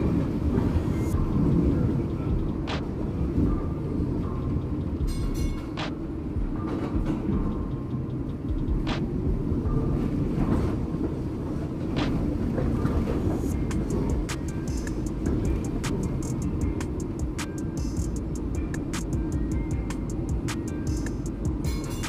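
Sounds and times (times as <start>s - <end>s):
streetcar low rumble: 0.0s - 22.0s
wheels clicking over rail joints: 0.0s - 22.0s.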